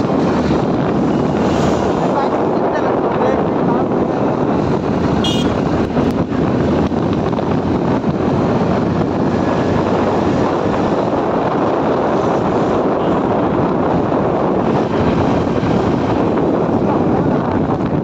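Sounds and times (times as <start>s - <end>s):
road noise: 0.0s - 18.0s
wind noise on microphone: 0.0s - 18.0s
motorcycle engine: 3.6s - 18.0s.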